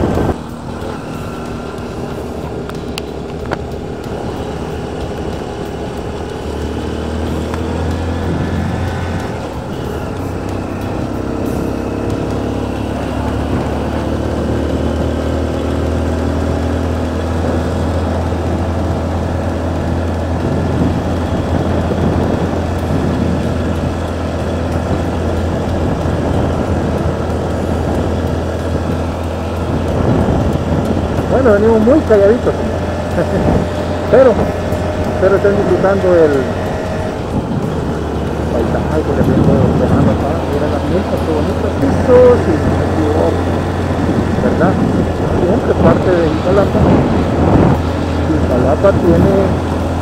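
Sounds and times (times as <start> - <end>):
wind on microphone: 0.0 - 15.5, 16.2 - 50.0
motorcycle engine running: 0.0 - 50.0.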